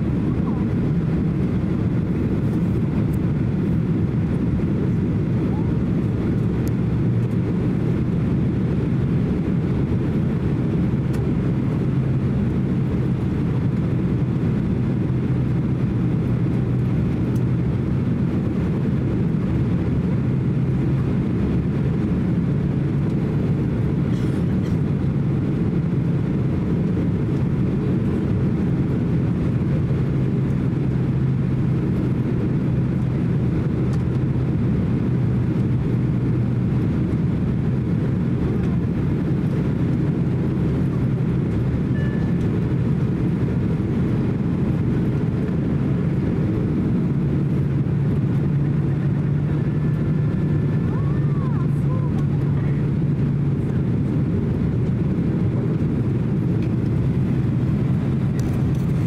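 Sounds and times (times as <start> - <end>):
jet engine drone and rushing air: 0.0 - 59.0
steady low hum: 0.0 - 59.0.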